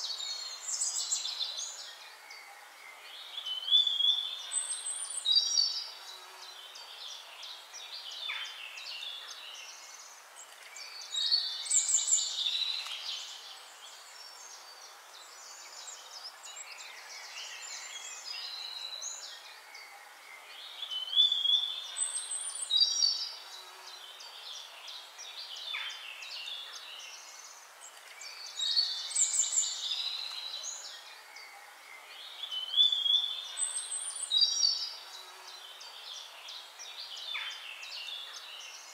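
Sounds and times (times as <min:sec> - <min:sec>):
songbirds chirping and singing: 0:00.0 - 0:38.9
steady hiss: 0:00.0 - 0:38.9.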